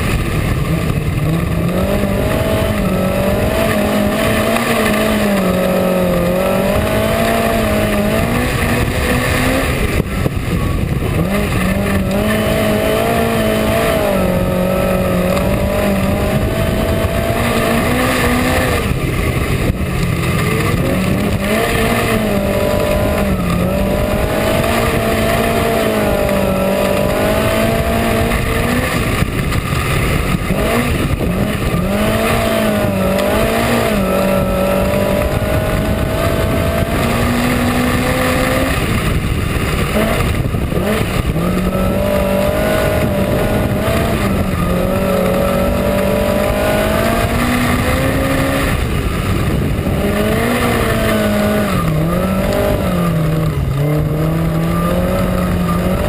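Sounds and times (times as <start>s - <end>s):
race car engine at speed: 0.0s - 56.0s.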